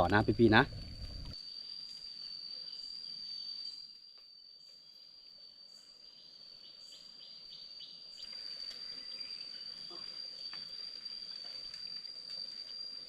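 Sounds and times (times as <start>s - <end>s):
crickets trilling: 0.0s - 13.0s
insects chirping: 0.0s - 13.0s.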